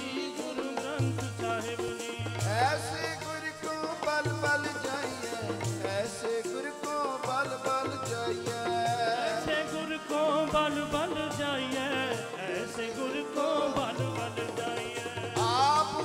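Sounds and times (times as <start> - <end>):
hand drum rhythm: 0.0 - 16.0
harmonium chords: 0.0 - 16.0
man singing: 0.0 - 16.0.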